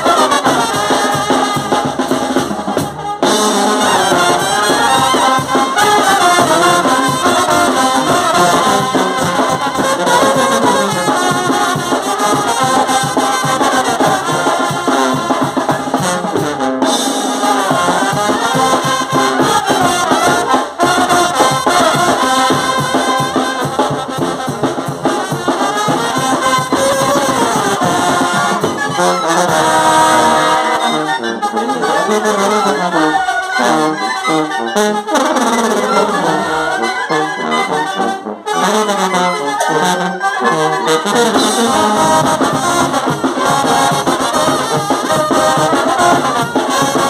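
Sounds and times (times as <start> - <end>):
brass band playing: 0.0 - 47.0
steady drum beat: 0.0 - 47.0.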